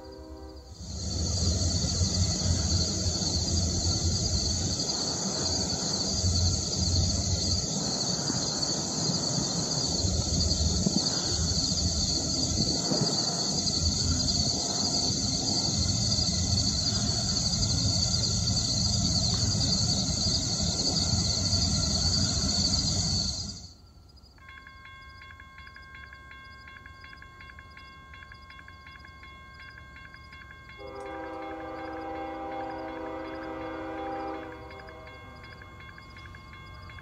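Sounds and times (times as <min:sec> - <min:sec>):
diesel locomotive engine rumble: 0:00.0 - 0:37.0
high-pitched insect drone: 0:00.0 - 0:37.0.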